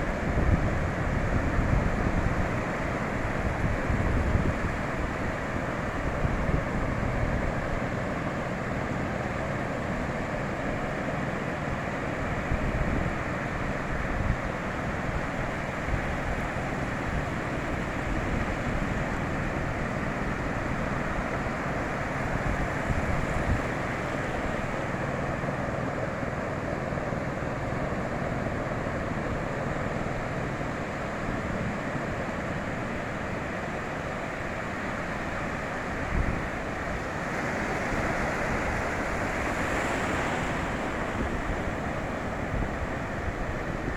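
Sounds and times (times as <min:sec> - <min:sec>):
ocean surf washing onto beach: 0:00.0 - 0:43.9.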